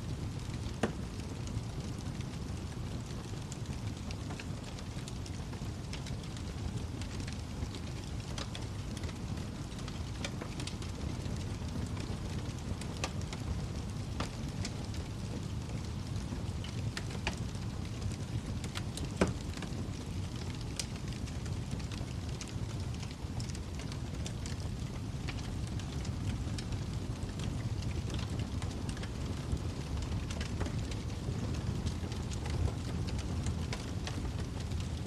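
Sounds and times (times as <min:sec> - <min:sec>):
wood fire burning: 0:00.0 - 0:35.0
fire crackling and popping: 0:00.1 - 0:35.0.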